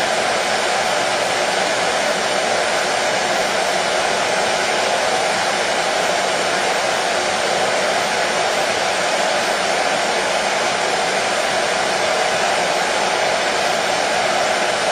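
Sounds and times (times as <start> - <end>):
hair dryer running: 0.0 - 14.9.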